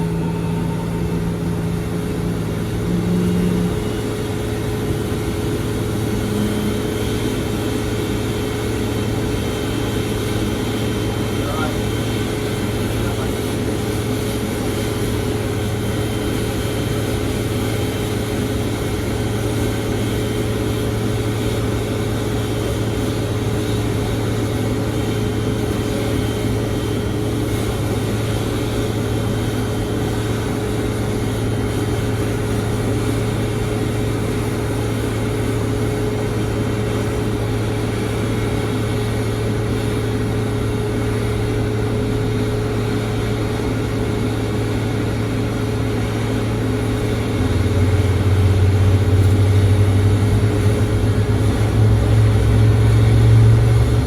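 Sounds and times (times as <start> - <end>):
jet airliner drone: 0.0 - 54.0.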